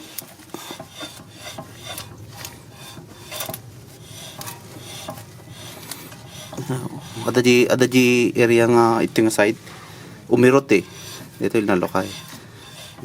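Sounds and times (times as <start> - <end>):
brake pad scraping rotor: 0.0 - 9.5, 10.3 - 13.0.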